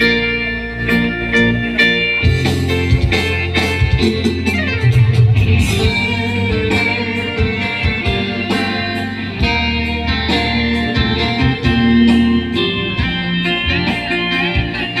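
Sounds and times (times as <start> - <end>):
bass line: 0.0 - 15.0
electric guitar: 0.0 - 15.0
percussion: 0.9 - 15.0.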